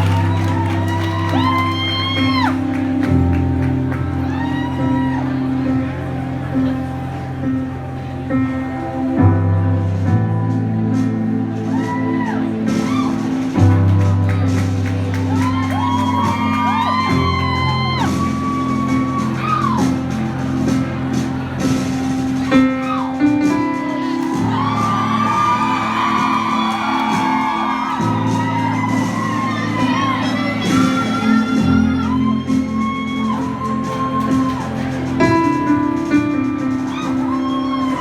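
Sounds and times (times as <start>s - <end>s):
audience shouting and whooping: 0.0s - 5.8s, 11.6s - 20.8s, 21.6s - 38.0s.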